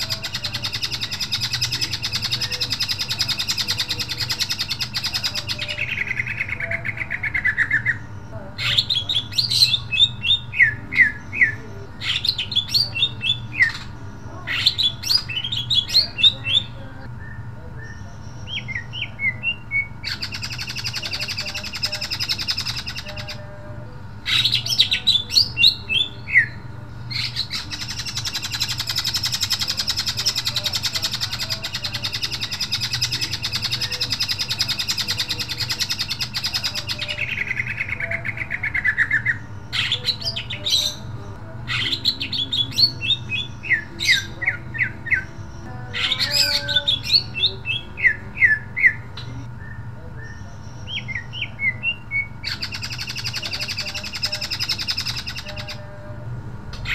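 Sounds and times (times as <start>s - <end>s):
bird singing: 0.0s - 56.9s
steady low hum: 0.0s - 56.9s.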